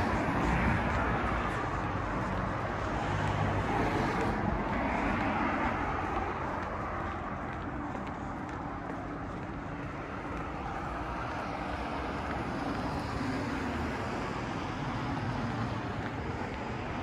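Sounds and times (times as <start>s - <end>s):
cars passing on street: 0.0s - 17.0s.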